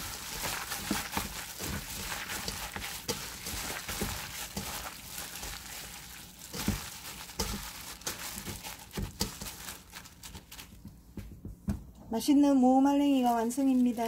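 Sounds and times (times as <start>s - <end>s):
wet strips rustling in bowl: 0.0s - 11.1s, 12.9s - 14.0s
plastic gloves crinkling: 0.0s - 11.3s, 12.7s - 14.0s.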